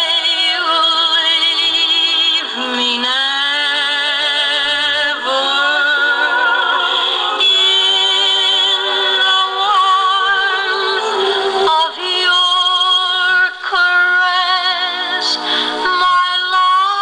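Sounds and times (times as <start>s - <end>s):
gramophone vocal record: 0.0s - 17.0s.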